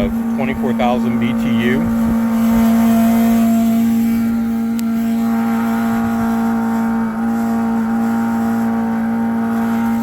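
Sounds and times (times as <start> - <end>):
compressor humming loudly: 0.0 - 10.0.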